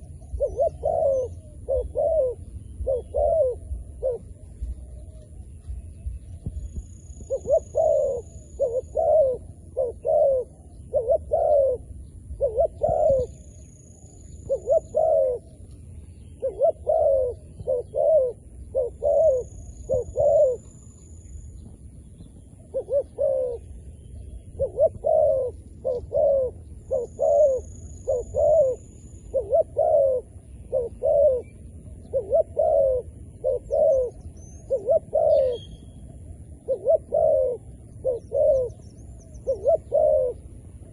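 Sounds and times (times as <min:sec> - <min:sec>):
dove cooing: 0:00.0 - 0:21.0, 0:21.6 - 0:40.9.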